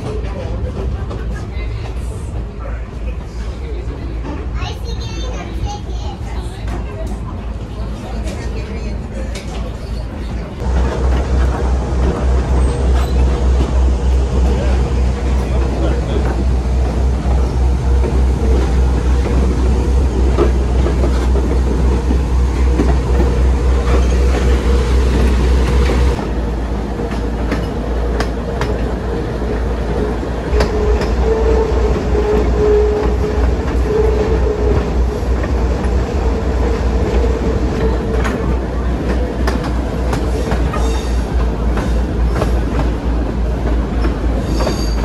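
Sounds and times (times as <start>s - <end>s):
train cars rumbling and clacking: 0.0s - 45.0s.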